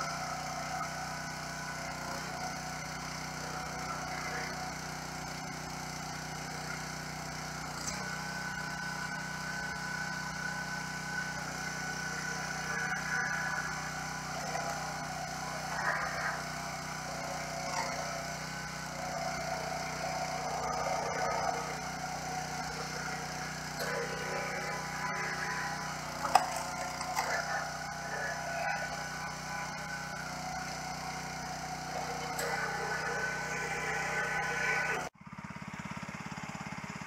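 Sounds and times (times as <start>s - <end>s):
log splitter engine running: 0.0s - 37.0s.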